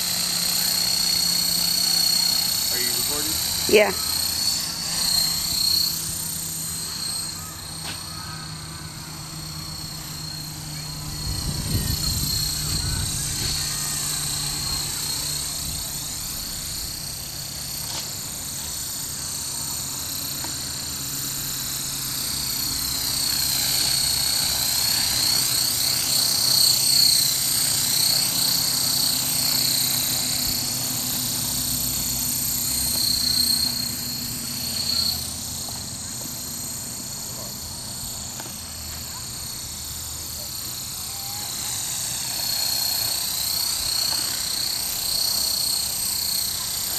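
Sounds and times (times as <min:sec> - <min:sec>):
rc helicopter motor whine: 0:00.0 - 0:46.9
rotor hum: 0:00.0 - 0:46.9.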